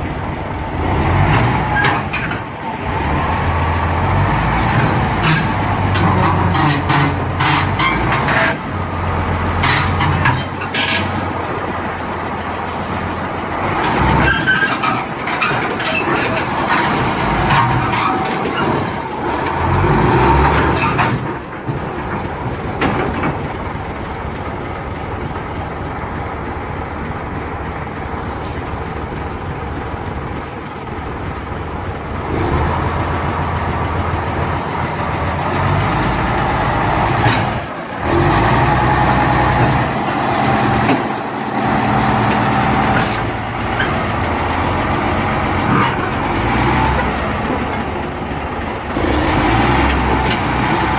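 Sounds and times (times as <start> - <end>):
heavy vehicle engines running: 0.0 - 50.9.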